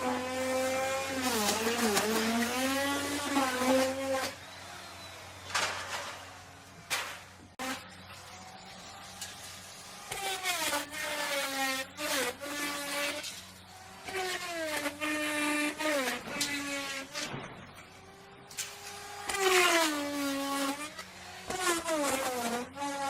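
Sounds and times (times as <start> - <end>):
router cutting wood: 0.0 - 23.0
router motor whine: 0.0 - 23.0.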